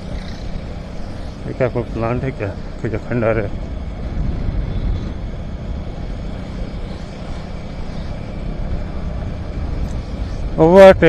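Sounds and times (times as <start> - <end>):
motorcycle riding: 0.0 - 11.0.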